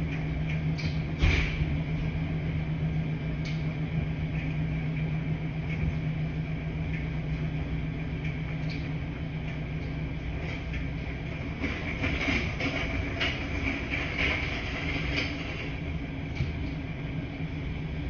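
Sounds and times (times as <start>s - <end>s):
washing machines running: 0.0s - 18.0s.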